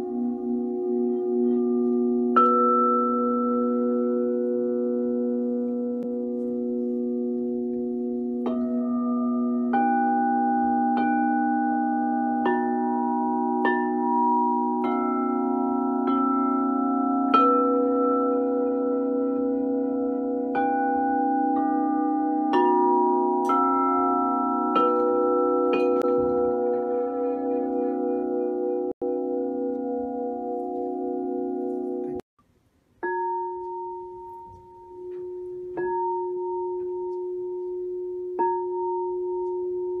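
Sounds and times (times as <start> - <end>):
singing bowls ringing: 0.0 - 32.2, 33.0 - 40.0.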